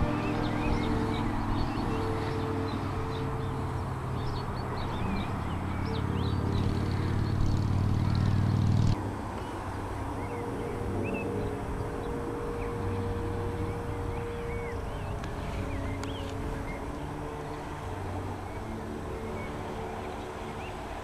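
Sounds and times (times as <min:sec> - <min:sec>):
low mechanical hum: 0:00.0 - 0:21.0
small birds chirping and singing: 0:00.0 - 0:21.0.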